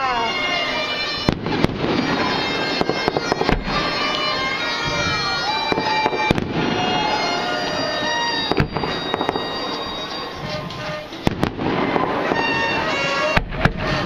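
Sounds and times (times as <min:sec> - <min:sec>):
fireworks bursting in sharp bangs: 0:00.0 - 0:14.0
sustained high tones: 0:00.0 - 0:14.0.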